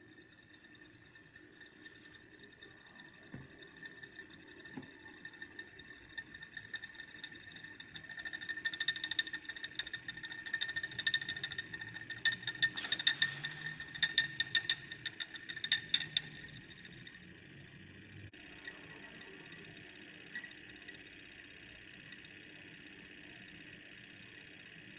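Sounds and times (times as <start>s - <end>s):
magnetic stirrer whine: 0.0s - 24.9s
rapid irregular clicking: 0.0s - 24.9s.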